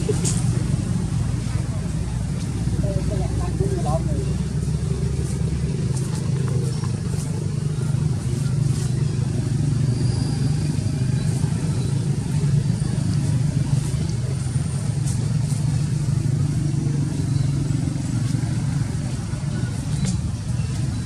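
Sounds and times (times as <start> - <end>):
low engine-like hum: 0.0 - 21.0.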